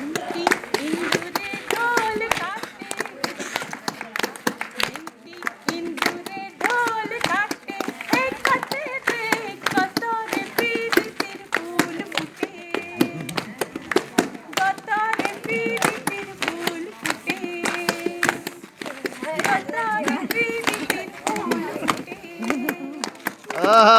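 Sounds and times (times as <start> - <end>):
group singing together: 0.0 - 3.7, 5.0 - 23.9
hand-clapping: 0.0 - 23.9.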